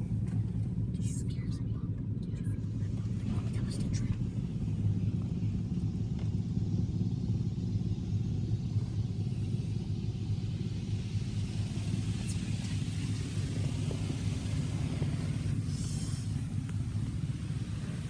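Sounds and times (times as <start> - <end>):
car wash rumble: 0.0 - 18.0
faint hiss: 2.5 - 18.0.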